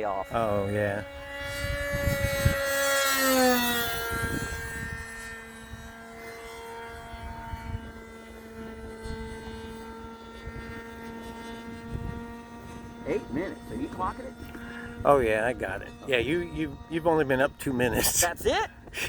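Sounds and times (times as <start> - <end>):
model plane engine flying past: 0.0 - 19.0.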